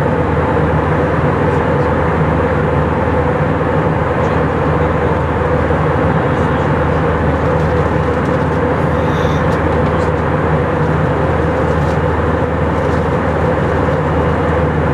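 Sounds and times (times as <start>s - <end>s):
airliner cabin engine and airflow rush: 0.0s - 14.9s
constant cabin hum: 0.0s - 14.9s.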